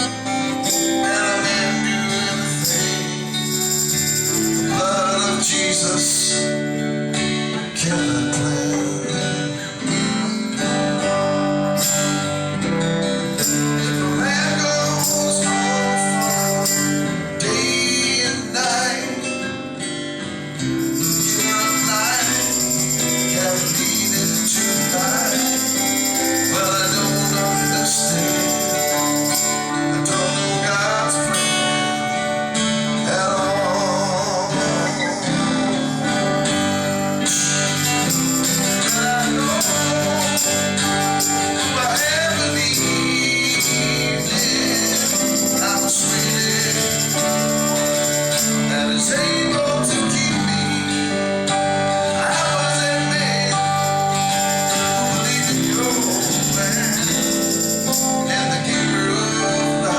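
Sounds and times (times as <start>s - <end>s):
jingling percussion: 0.0s - 6.9s, 8.2s - 19.4s, 20.5s - 32.7s, 33.5s - 59.9s
guitar: 0.0s - 59.9s
man singing: 0.0s - 59.9s.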